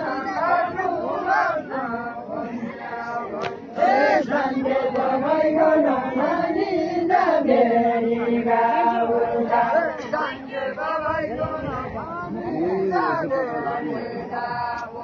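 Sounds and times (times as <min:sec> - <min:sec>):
crowd chanting long notes: 0:00.0 - 0:15.0.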